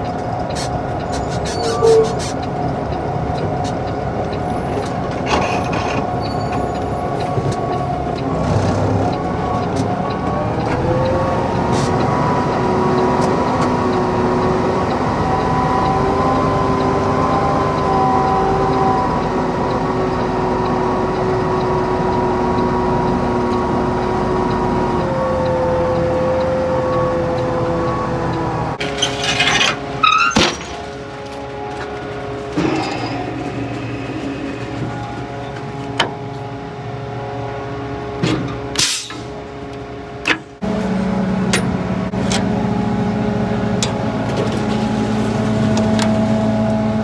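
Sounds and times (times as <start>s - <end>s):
truck engine rumble: 0.0s - 47.0s.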